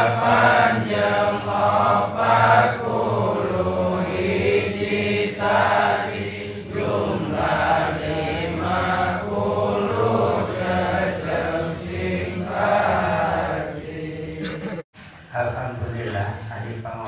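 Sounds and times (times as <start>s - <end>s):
men chanting in unison: 0.0s - 14.8s.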